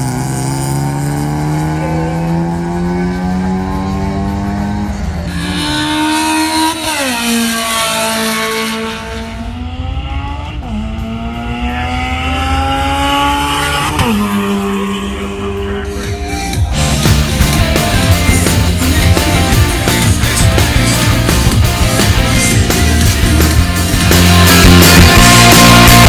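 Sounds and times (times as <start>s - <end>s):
car engine revving under load: 0.0s - 26.0s.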